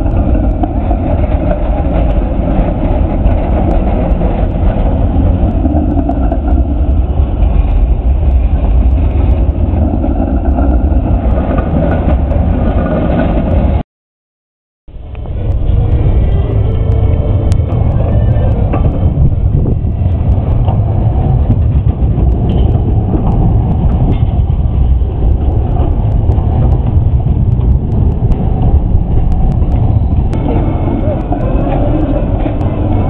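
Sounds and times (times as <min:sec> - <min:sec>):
tram rolling past: 0:00.0 - 0:13.8, 0:14.9 - 0:33.0.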